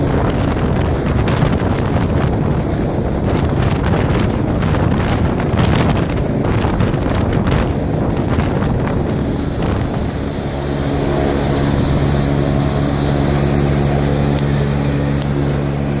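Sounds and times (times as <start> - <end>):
helicopter turbine and rotor drone: 0.0 - 16.0
rotor downwash buffeting microphone: 0.0 - 16.0.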